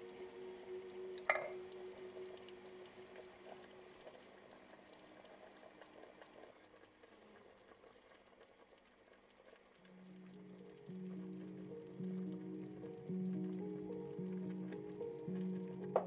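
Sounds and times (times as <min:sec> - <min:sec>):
stew simmering with crackles: 0:00.0 - 0:16.0.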